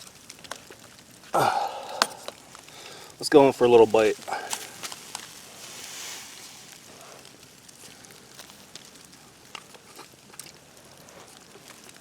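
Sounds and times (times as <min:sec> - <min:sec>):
campfire crackling: 0:00.0 - 0:12.0
fire popping: 0:00.0 - 0:12.0.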